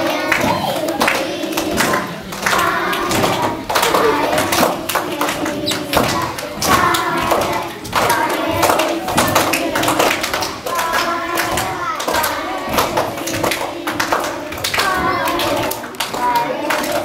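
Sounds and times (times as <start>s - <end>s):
children singing together: 0.0s - 17.0s.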